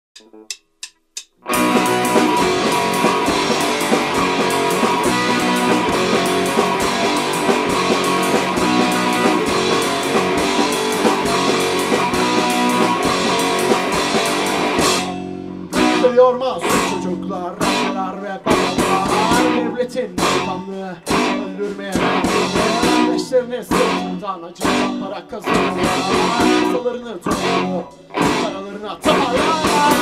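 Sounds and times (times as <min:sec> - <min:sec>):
drums: 0:00.2 - 0:30.0
strummed electric guitar: 0:01.4 - 0:30.0.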